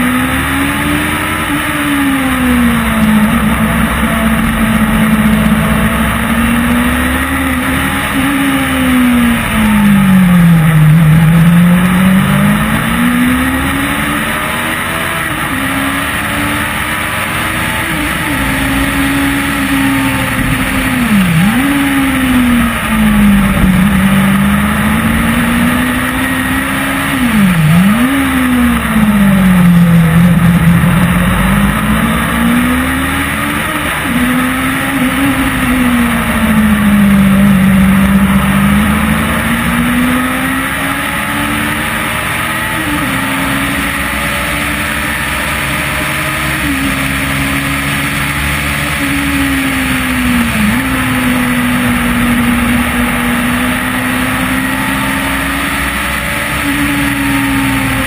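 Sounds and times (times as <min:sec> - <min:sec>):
race car engine: 0:00.0 - 0:58.0
wind and road noise: 0:00.0 - 0:58.0.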